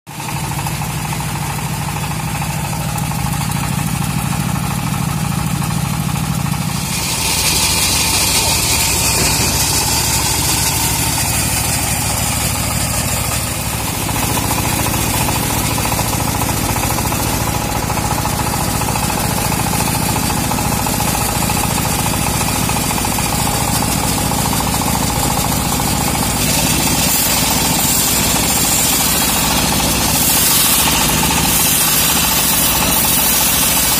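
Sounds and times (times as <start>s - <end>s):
sawmill engine running: 0.1s - 33.9s
band blade sawing log: 2.4s - 33.9s.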